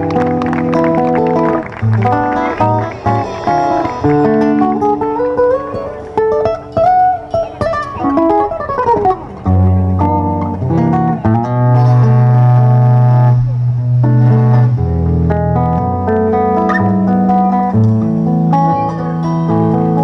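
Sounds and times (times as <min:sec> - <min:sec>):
acoustic guitar lead with slides: 0:00.0 - 0:20.0
bass guitar low notes: 0:00.0 - 0:20.0.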